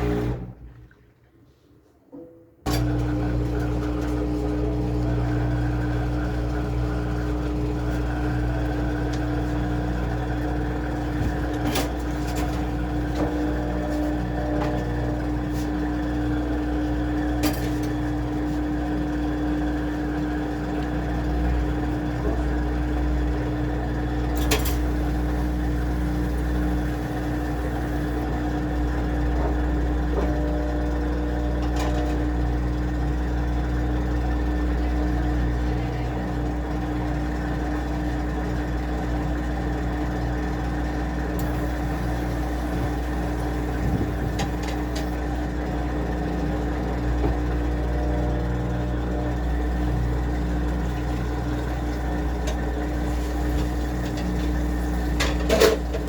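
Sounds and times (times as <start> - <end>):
washing machine motor hum: 0.0 - 1.5, 2.7 - 56.0.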